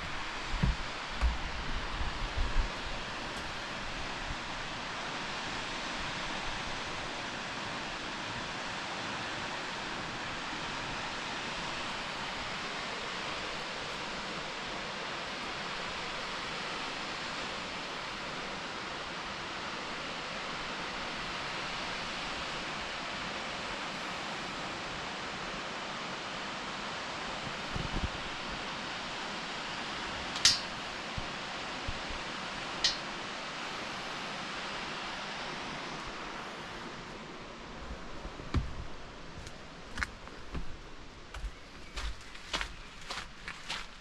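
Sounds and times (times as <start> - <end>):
waterfall roaring: 0.0 - 39.8.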